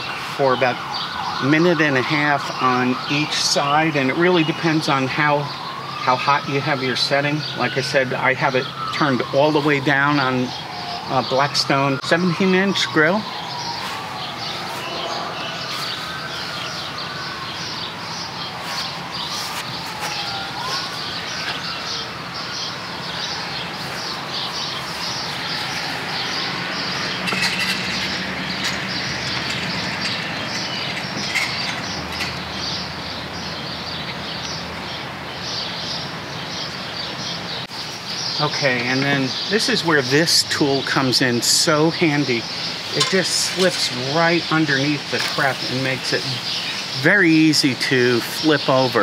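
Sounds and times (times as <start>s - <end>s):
birds chirping: 0.0s - 49.0s
distant siren wailing: 0.0s - 49.0s.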